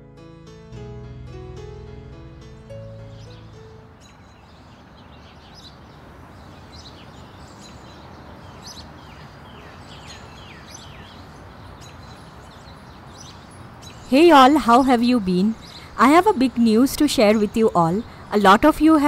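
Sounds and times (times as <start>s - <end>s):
background hiss: 2.5s - 19.0s
birds chirping: 2.7s - 19.0s.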